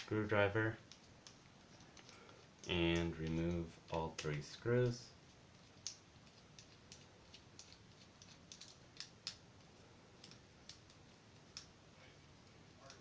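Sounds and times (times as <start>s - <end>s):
plastic toy being handled: 0.8s - 13.0s.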